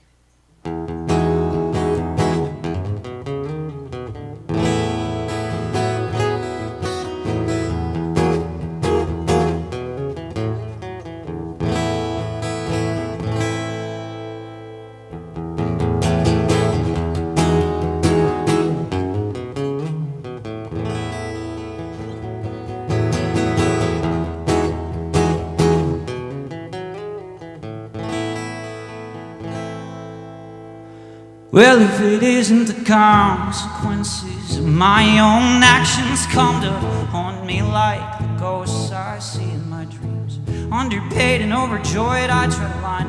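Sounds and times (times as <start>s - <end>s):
acoustic guitar strumming: 0.6s - 43.0s.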